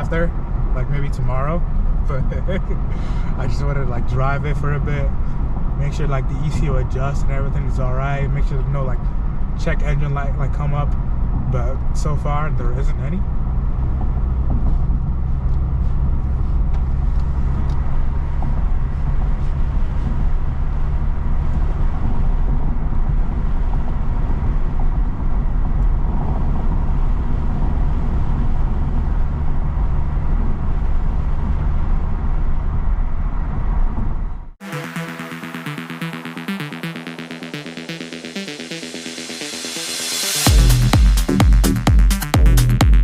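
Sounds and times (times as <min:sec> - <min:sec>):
road noise inside car: 0:00.0 - 0:34.6
car engine drone: 0:00.0 - 0:43.0.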